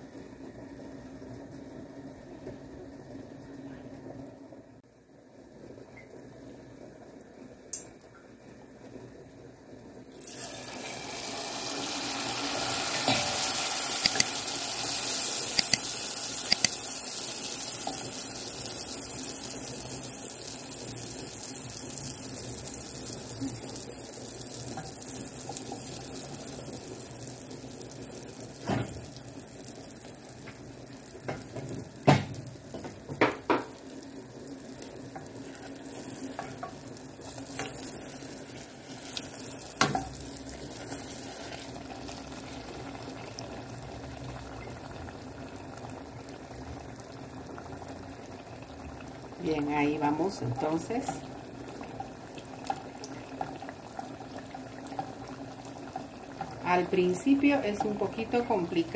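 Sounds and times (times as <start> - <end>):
dough deep-frying in hot oil: 0.0 - 58.9.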